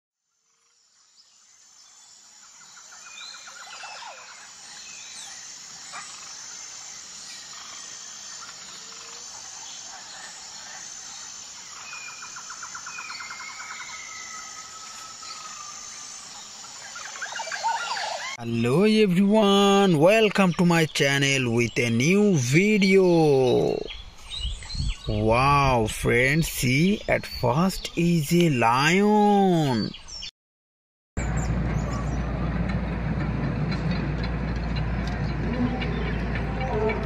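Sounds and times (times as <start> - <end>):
birds singing and calling: 0.6 - 30.3, 31.2 - 32.7, 33.8 - 37.0.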